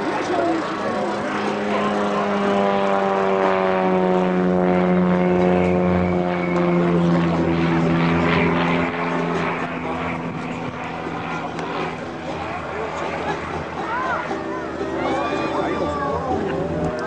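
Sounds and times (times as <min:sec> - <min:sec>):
propeller plane droning overhead: 0:00.0 - 0:17.0.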